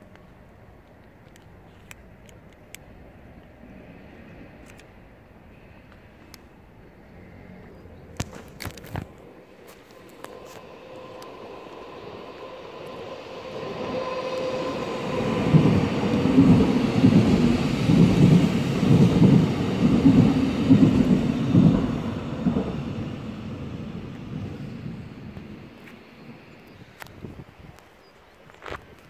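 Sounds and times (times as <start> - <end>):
electric train passing: 2.8 - 27.6.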